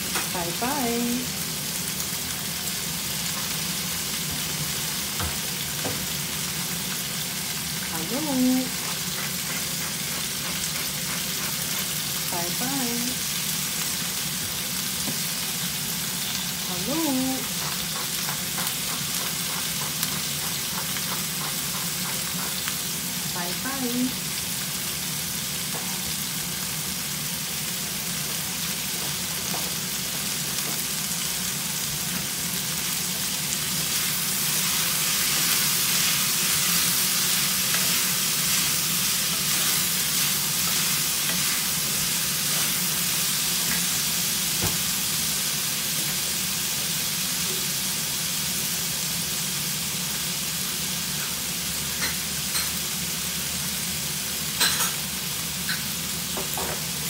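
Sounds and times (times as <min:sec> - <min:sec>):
vegetables sizzling in a pan: 0:00.0 - 0:57.0.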